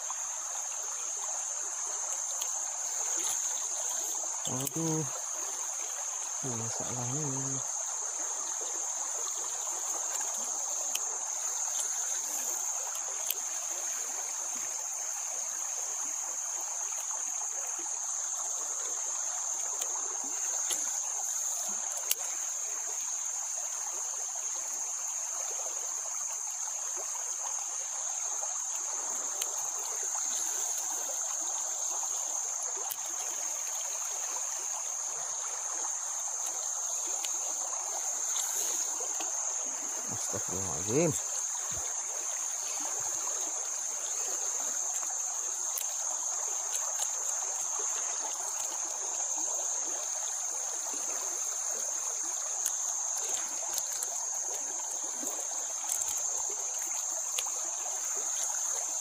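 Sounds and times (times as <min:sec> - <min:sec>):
even hiss: 0:00.0 - 0:59.0
insects droning: 0:00.0 - 0:59.0.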